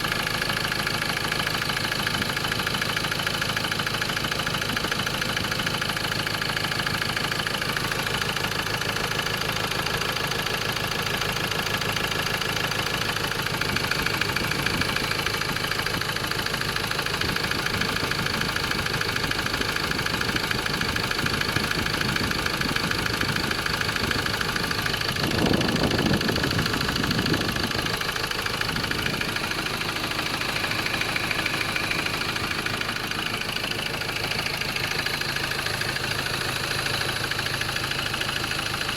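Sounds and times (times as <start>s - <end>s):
diesel engine idling with knock: 0.0s - 38.9s.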